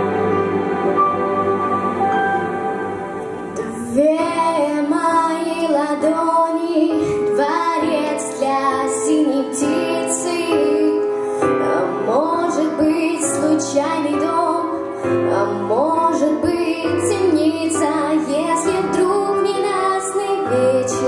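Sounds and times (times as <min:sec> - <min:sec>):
backing music: 0:00.0 - 0:21.0
girl singing into a microphone: 0:03.6 - 0:21.0.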